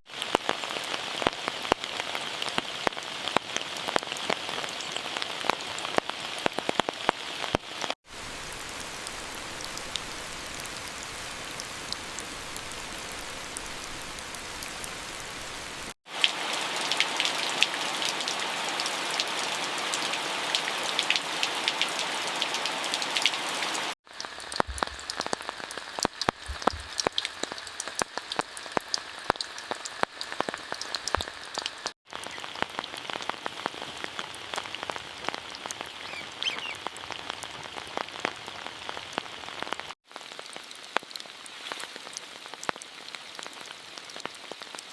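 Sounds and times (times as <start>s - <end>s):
rain falling: 0.1s - 44.9s.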